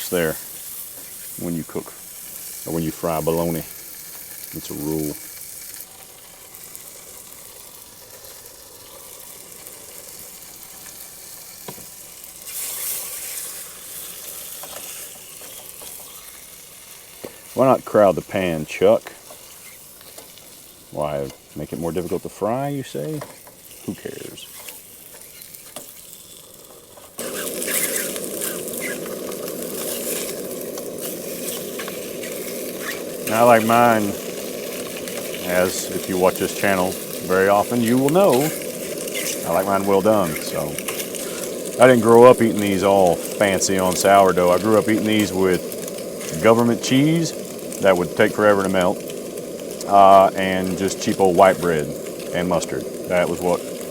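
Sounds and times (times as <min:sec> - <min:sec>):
meat slices sizzling in a pan: 0:00.0 - 0:53.9.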